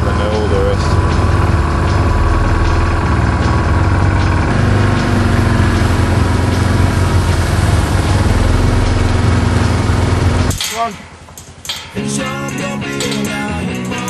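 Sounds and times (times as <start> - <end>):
small engine running steadily: 0.0 - 11.9.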